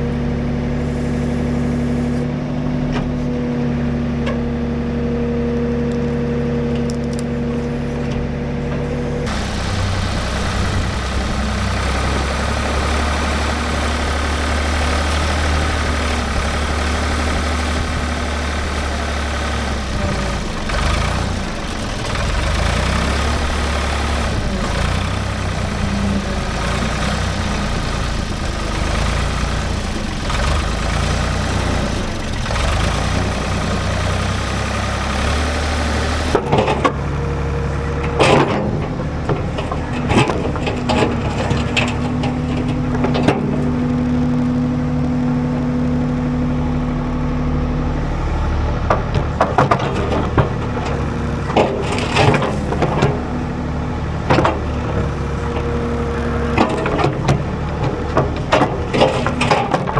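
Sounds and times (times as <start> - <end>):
backhoe engine running under load: 0.0 - 59.9.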